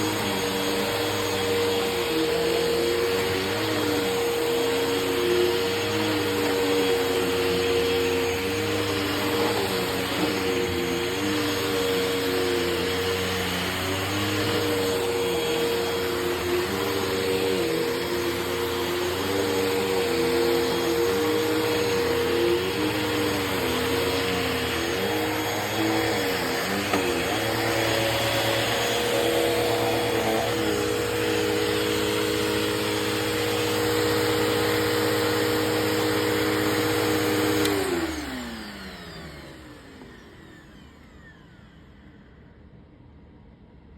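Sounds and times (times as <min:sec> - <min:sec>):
vacuum motor spinning down: 0:00.0 - 0:42.6
vacuum cleaner running: 0:00.0 - 0:43.0.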